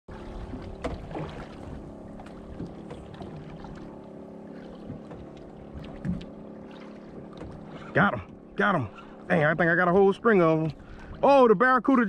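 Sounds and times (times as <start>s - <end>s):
boat engine idling: 0.1s - 12.0s.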